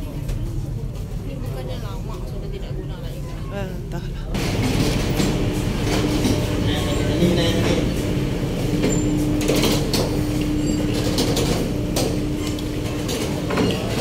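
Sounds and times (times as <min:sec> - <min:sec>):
ferry engine rumbling: 0:00.0 - 0:14.0.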